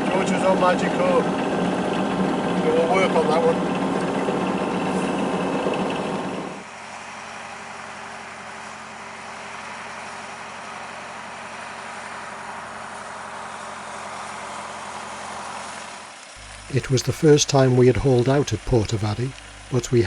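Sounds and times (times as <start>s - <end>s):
boat engine running: 0.0s - 15.7s, 16.4s - 20.0s
steady engine hum: 0.0s - 20.0s.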